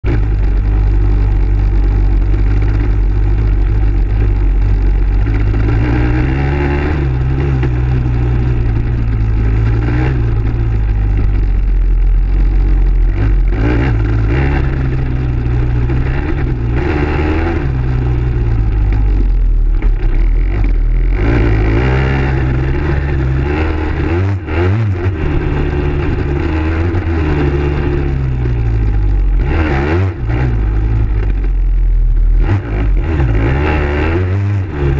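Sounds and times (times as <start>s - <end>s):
dirt bike engine revving: 0.0s - 31.6s, 32.2s - 34.9s.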